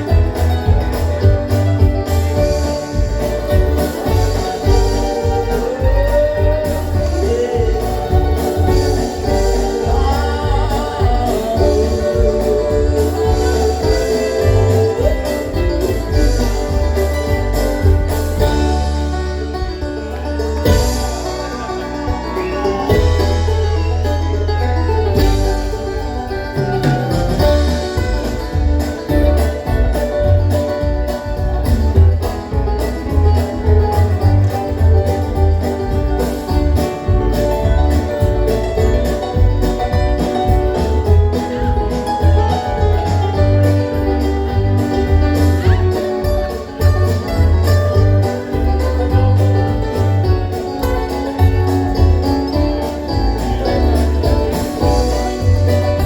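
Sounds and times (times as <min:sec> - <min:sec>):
bluegrass string band playing: 0:00.0 - 0:56.0.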